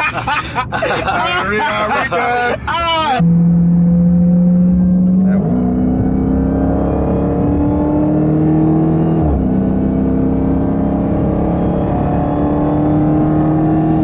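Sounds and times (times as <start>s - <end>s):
car engine accelerating hard: 1.7s - 14.0s.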